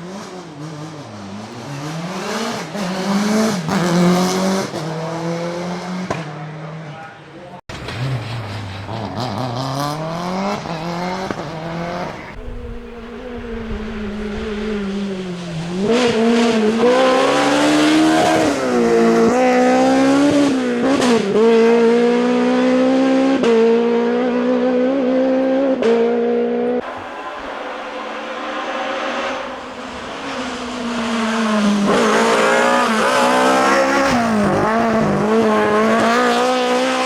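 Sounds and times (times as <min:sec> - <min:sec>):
rally car engine at high revs: 0:00.0 - 0:07.0, 0:07.8 - 0:37.0.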